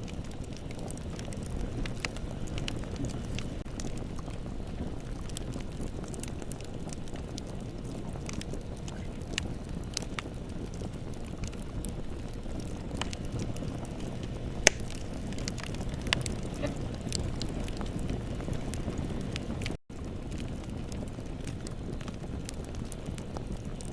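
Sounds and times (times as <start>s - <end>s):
burning wood crackling and popping: 0.0s - 23.9s
rush of bonfire flames: 0.0s - 23.9s.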